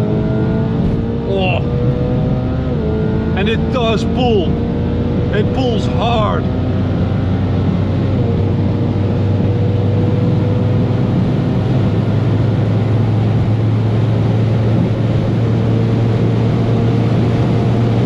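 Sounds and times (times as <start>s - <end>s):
engine drone at full throttle: 0.0s - 18.0s.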